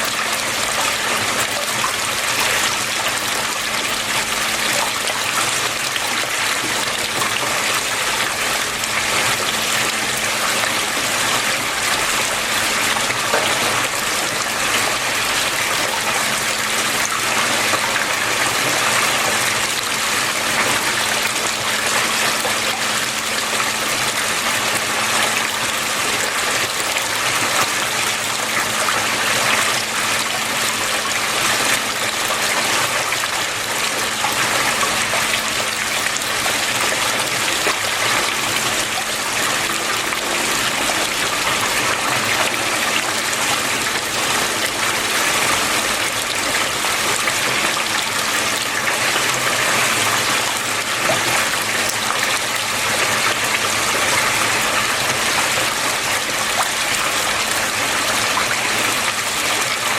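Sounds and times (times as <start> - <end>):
water flowing and splashing: 0.0 - 59.9.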